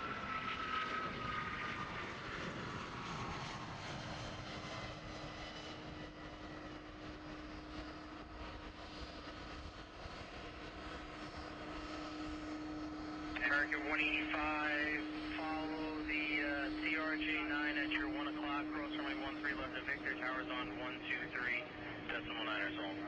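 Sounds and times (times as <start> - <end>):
falling jet engine whine: 0.0 - 23.0
jet engines roaring: 0.0 - 23.0.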